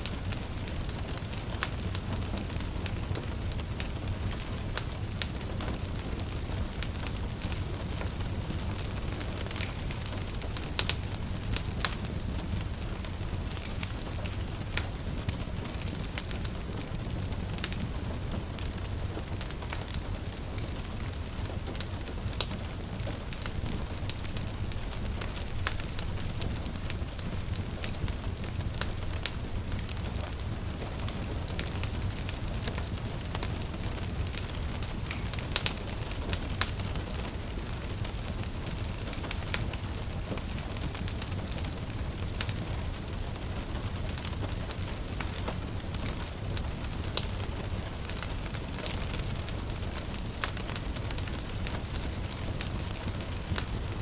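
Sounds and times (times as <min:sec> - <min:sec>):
gentle rain hiss: 0:00.0 - 0:54.0
wood fire crackling and popping: 0:00.0 - 0:54.0.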